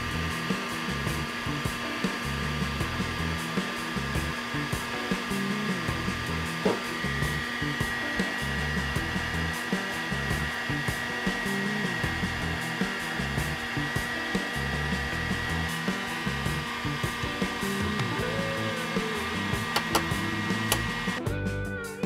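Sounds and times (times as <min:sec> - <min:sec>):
heat gun blowing whine: 0:00.0 - 0:21.2
background music with steady beat: 0:00.0 - 0:22.0.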